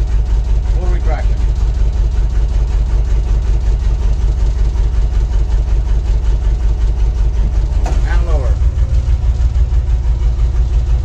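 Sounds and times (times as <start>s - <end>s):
crane engine idling: 0.0s - 11.0s.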